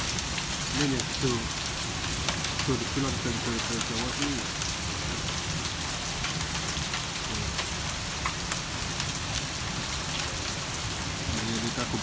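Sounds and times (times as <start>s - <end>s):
heavy rain pouring: 0.0s - 12.0s
raindrops tapping hard surfaces: 0.0s - 12.0s.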